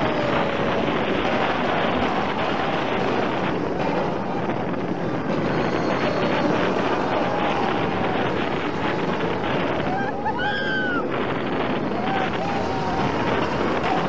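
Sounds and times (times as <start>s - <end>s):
roller coaster rumbling on track: 0.0s - 14.0s
wind on microphone: 0.0s - 14.0s.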